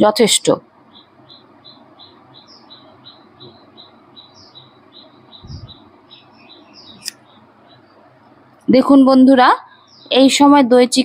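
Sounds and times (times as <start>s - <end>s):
small bird chirping: 0.0s - 10.6s.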